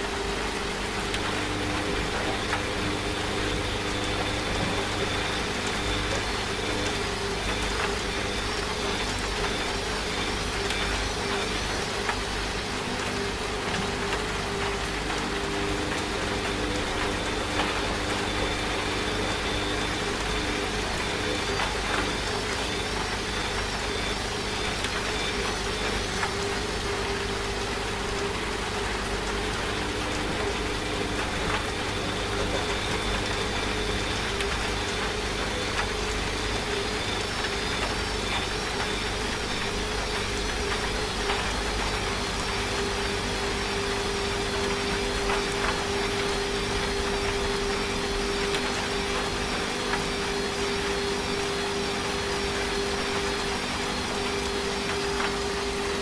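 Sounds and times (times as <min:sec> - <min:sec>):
rain falling: 0:00.0 - 0:56.0
washing machine motor hum: 0:00.0 - 0:56.0.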